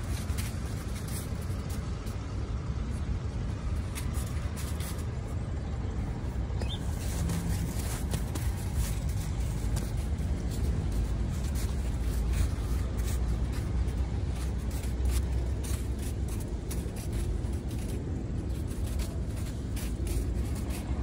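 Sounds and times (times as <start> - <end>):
footsteps crunching in snow: 0.0 - 21.0
street traffic rumble: 0.0 - 21.0.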